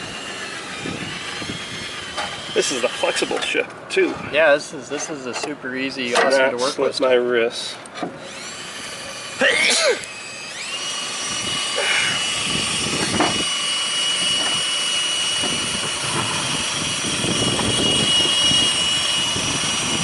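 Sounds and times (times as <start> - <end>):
rotary grinder whine: 0.0 - 4.3, 8.0 - 20.0.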